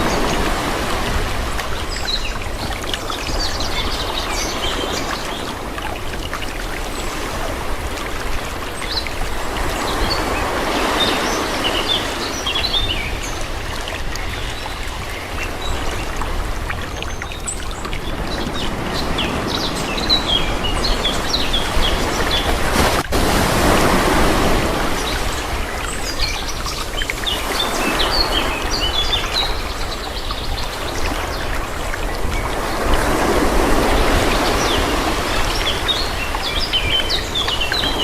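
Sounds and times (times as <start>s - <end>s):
sea waves washing in: 0.0s - 38.0s.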